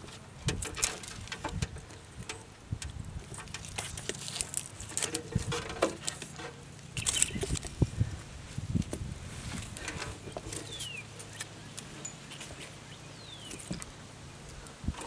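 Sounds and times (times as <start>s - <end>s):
wiring harness crackling and rustling: 0.0s - 15.0s.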